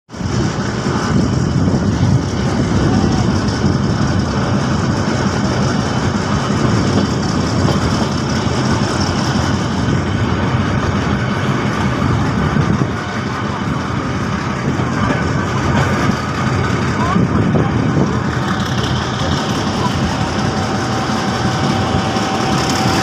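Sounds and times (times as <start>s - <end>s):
diesel locomotive engine rumbling: 0.1s - 23.0s.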